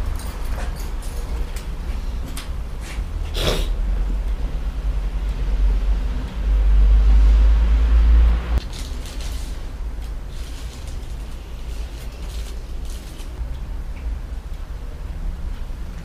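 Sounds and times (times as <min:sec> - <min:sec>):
low rumble of street traffic: 0:00.0 - 0:16.0.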